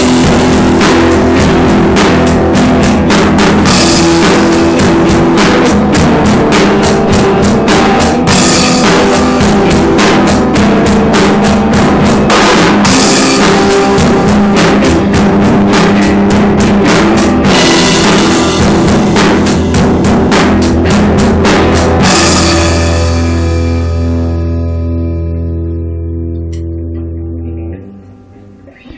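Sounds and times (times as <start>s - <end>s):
fast drumming with cymbals: 0.0s - 24.3s
electric guitar chords: 0.0s - 28.9s.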